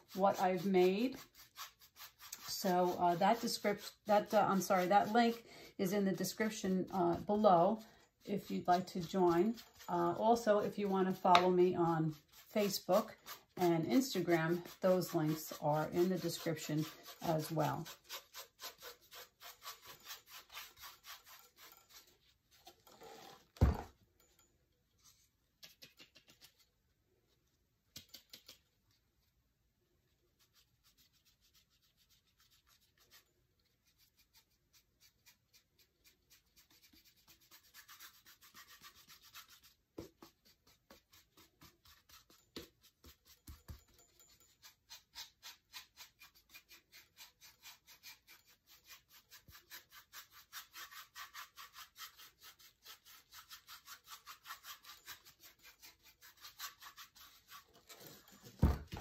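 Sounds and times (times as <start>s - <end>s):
paintbrush scrubbing: 0.0s - 23.3s, 25.0s - 27.4s, 28.0s - 29.3s, 30.0s - 59.0s.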